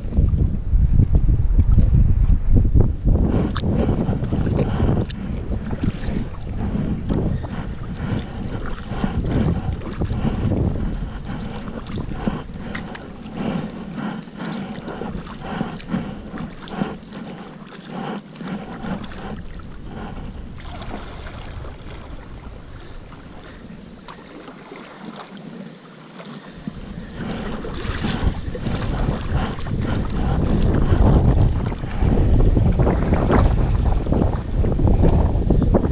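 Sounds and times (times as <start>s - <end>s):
wind rumbling on microphone: 0.0s - 24.4s, 26.4s - 35.9s
water splashing around kayak: 0.0s - 35.9s.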